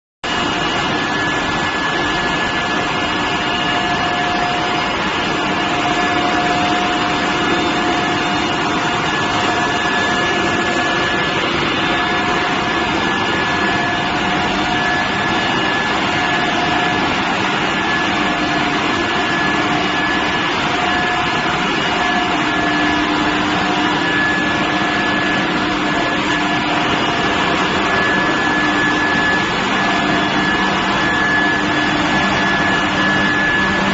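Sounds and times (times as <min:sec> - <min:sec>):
high whine: 0:00.2 - 0:33.9
furnace machine hum and hiss: 0:00.3 - 0:33.9.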